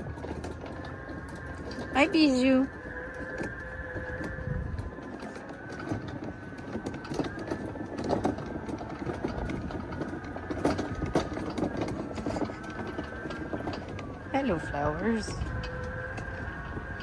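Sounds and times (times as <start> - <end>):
electric mower motor whine: 0.0 - 17.0.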